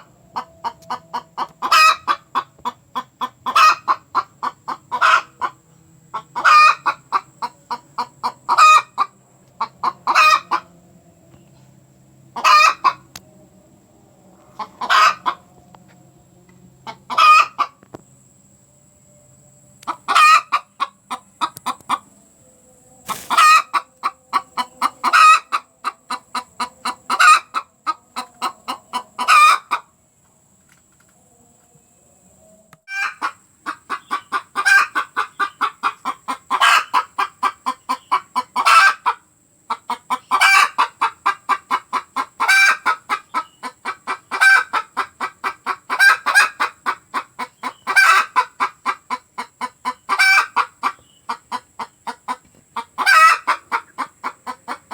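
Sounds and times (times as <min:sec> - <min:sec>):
hen cackling: 0:00.0 - 0:10.8, 0:12.3 - 0:13.2, 0:14.4 - 0:15.6, 0:16.8 - 0:17.8, 0:19.8 - 0:22.1, 0:23.1 - 0:29.9, 0:32.8 - 0:54.9.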